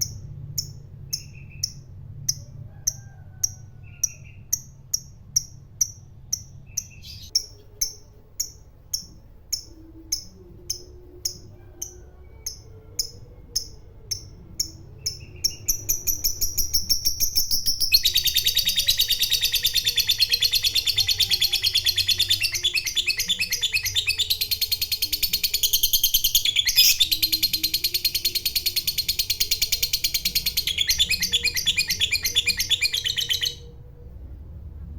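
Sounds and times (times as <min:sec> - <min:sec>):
lovebird chirping and chattering: 0:00.0 - 0:33.8.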